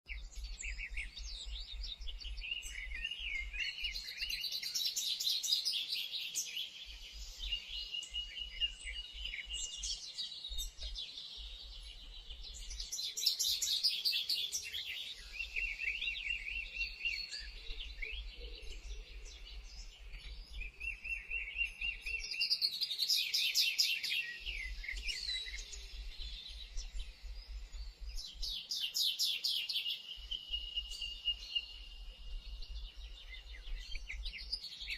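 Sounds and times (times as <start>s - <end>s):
songbirds chirping and trilling: 0.1s - 34.9s.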